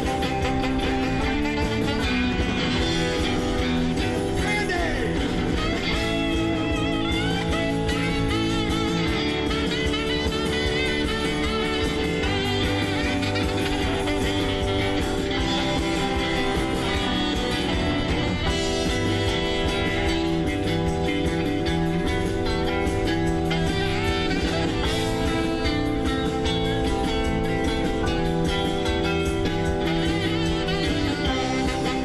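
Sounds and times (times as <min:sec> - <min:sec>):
surf rock band playing: 0:00.0 - 0:32.0.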